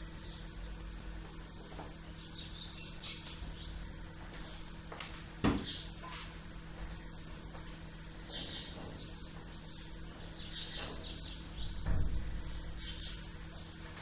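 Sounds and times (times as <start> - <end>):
small birds chirping faintly: 0.0 - 14.0
steady low hum: 0.0 - 14.0.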